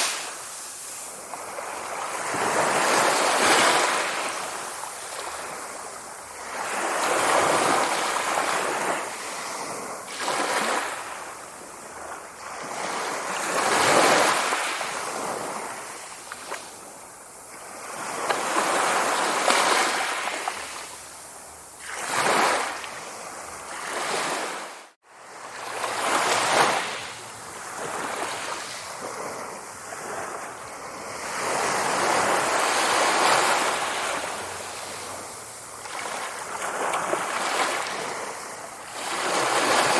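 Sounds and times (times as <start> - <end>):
sea waves breaking: 0.0 - 21.0, 21.8 - 39.9.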